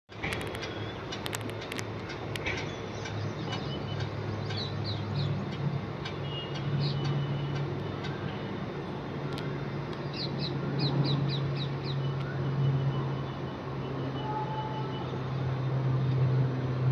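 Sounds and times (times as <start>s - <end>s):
aircraft engines droning: 0.1s - 16.9s.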